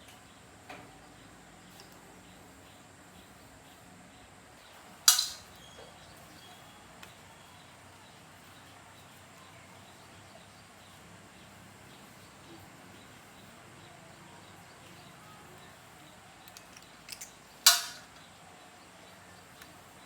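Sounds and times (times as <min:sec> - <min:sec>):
low background noise: 0:00.0 - 0:20.0.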